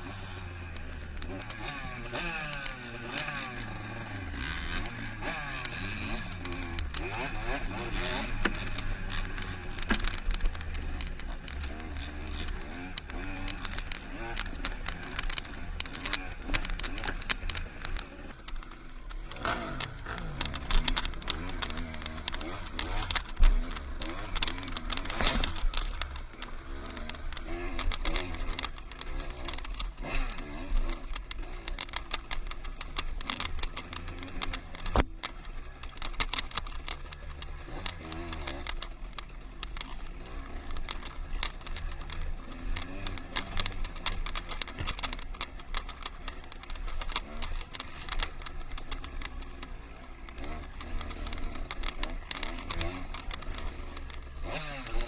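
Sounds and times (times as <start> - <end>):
dirt bike engine running: 0.0 - 55.0
knocks and rattles: 0.0 - 55.0.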